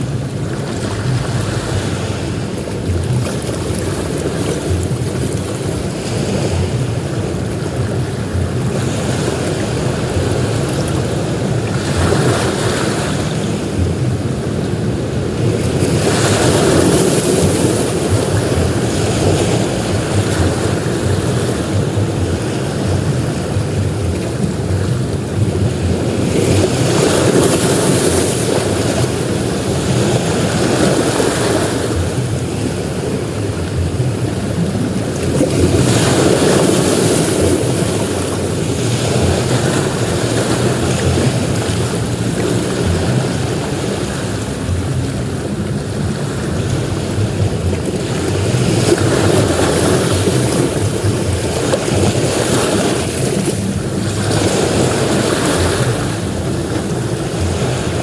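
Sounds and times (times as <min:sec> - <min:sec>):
sea surf washing onto beach: 0:00.0 - 0:58.0.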